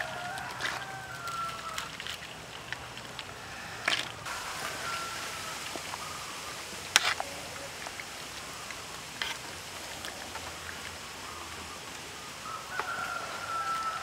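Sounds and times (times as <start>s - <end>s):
metal ladle stirring: 0.0s - 11.6s
broth simmering and bubbling: 0.0s - 14.0s.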